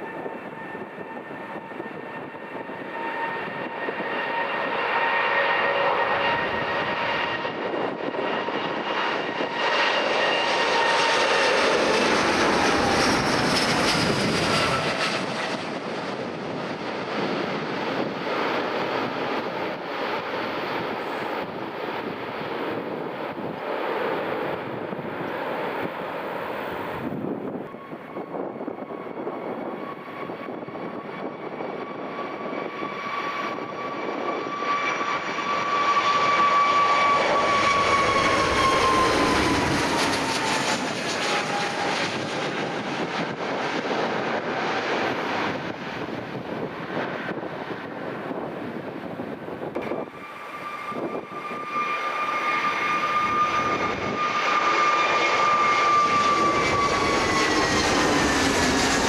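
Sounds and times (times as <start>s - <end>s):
aircraft engines whining: 0.0s - 59.0s.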